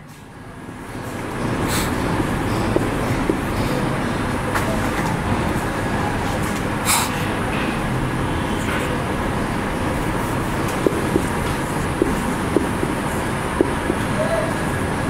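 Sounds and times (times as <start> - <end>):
background traffic noise: 0.0 - 15.0.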